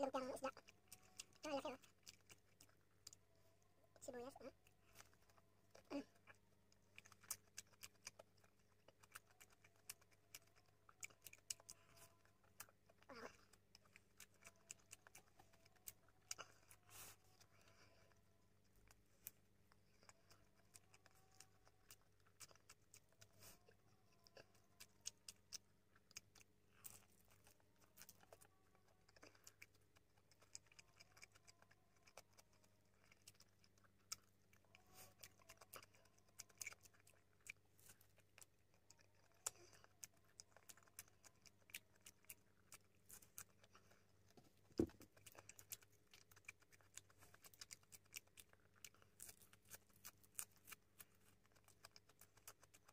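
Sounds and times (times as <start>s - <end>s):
faint low hum: 0.0s - 52.9s
wet chewing sounds: 0.0s - 52.9s.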